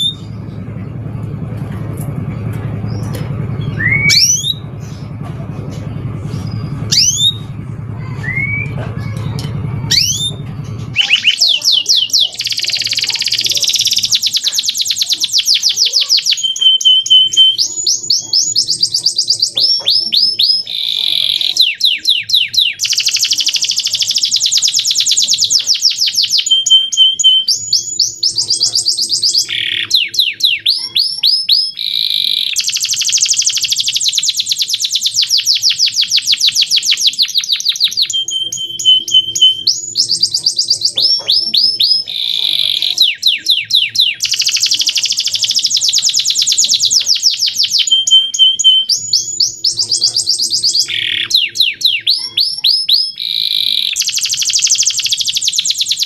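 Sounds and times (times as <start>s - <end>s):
canary singing fast trills: 0.0s - 0.6s, 2.8s - 5.2s, 6.2s - 8.8s, 9.8s - 56.0s.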